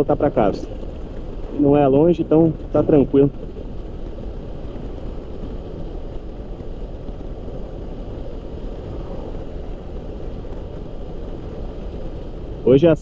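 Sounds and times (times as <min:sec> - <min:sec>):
motorcycle road noise: 0:00.0 - 0:13.0
wind on microphone: 0:00.0 - 0:13.0.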